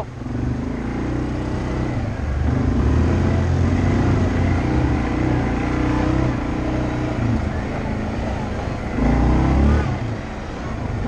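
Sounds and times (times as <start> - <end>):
atv engine under throttle: 0.0 - 10.4.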